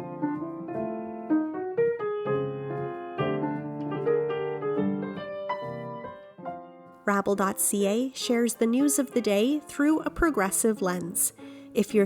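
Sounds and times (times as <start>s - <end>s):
gentle piano chords and melody: 0.0s - 12.0s.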